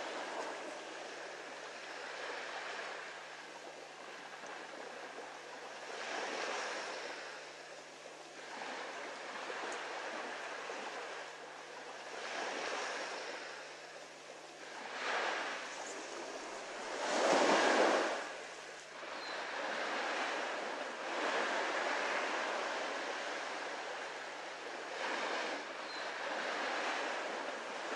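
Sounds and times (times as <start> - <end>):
ocean surf washing onto beach: 0.0 - 27.9.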